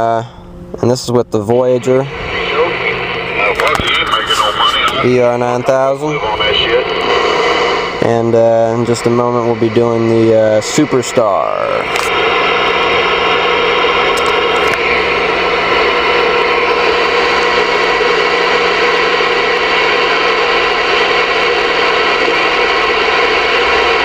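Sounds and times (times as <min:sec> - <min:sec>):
low hum: 0:00.0 - 0:24.0
radio static hiss: 0:01.5 - 0:24.0.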